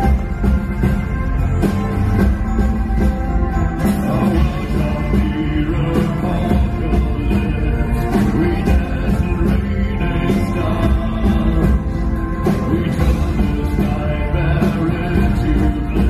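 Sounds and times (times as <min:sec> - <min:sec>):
live rock band through pa: 0:00.0 - 0:16.0
person singing: 0:03.0 - 0:16.0.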